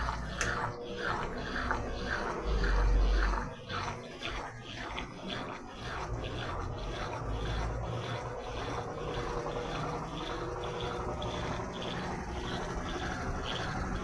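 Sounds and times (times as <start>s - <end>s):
washing machine spin cycle: 0.0s - 14.0s.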